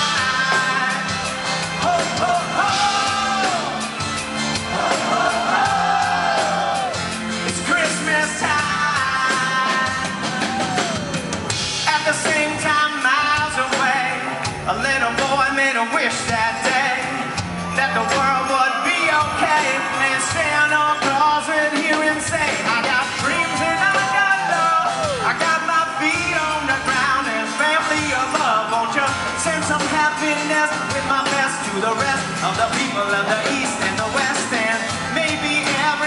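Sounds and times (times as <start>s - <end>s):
person singing: 0.0s - 3.9s, 4.6s - 36.0s
bass guitar: 0.0s - 36.0s
drums: 0.0s - 36.0s.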